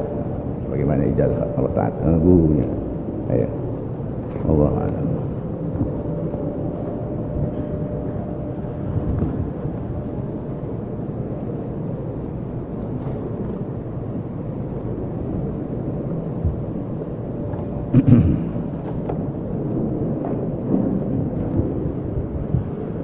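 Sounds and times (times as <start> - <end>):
crowded hall rumble: 0.0 - 23.0.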